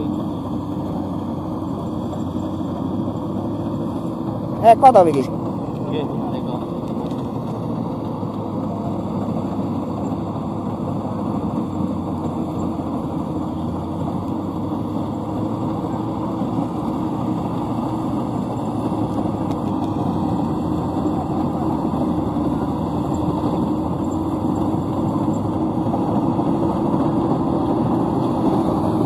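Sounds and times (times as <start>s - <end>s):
combine harvester running: 0.0s - 29.0s.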